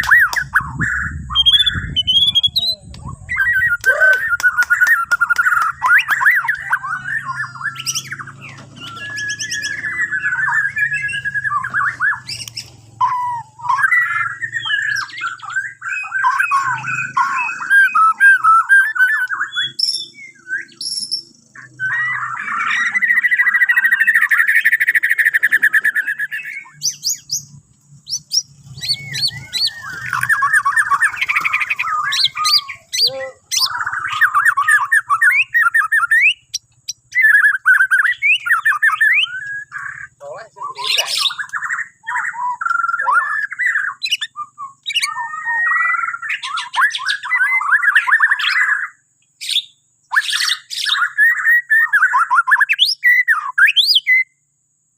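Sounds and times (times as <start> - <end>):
bird singing whistles and trills: 0.0 - 54.5.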